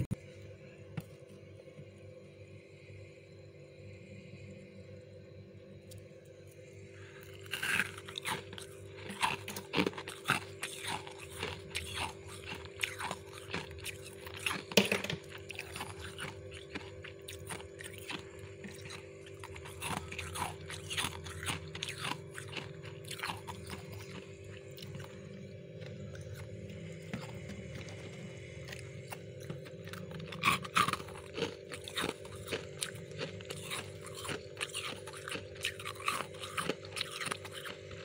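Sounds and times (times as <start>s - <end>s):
steady hum: 0.0s - 38.0s
frost crunching being chewed: 6.6s - 38.0s.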